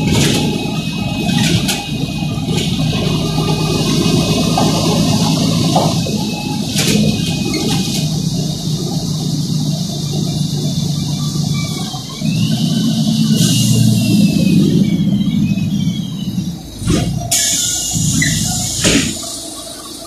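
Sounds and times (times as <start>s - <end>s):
bus diesel engine rumble: 0.0s - 20.0s
steady hiss: 0.0s - 20.0s.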